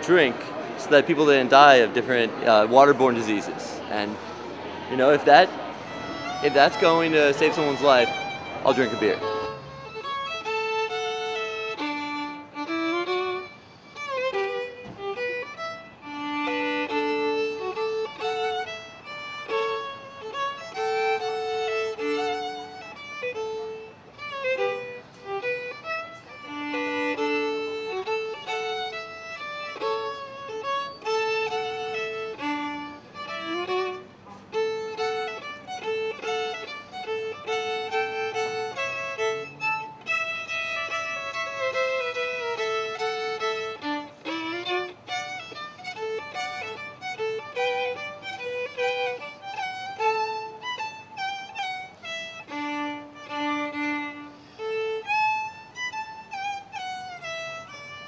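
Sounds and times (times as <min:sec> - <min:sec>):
solo fiddle tune: 0:00.0 - 0:58.0.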